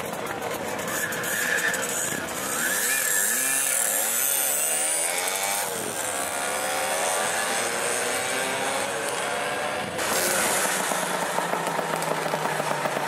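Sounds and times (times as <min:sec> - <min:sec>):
moped engines revving: 0:00.0 - 0:13.0.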